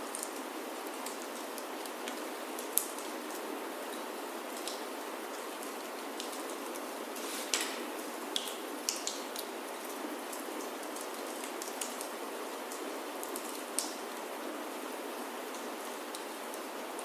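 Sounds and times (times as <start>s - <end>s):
wood fire crackling: 0.0s - 14.8s
rain on a wooden roof: 0.0s - 17.0s.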